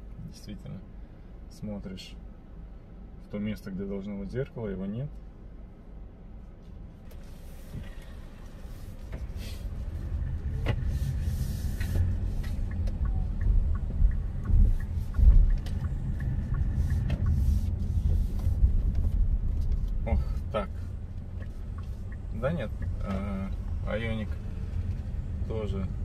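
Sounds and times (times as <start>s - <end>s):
road and tyre rumble: 0.0s - 26.0s.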